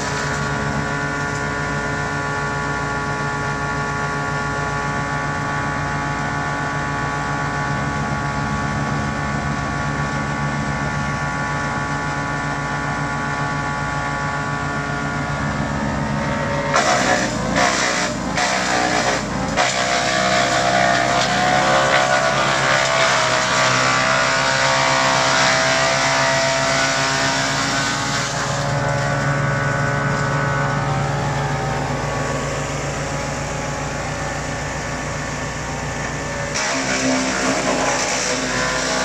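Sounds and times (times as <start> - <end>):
wood chipper shredding branches: 0.0 - 39.0.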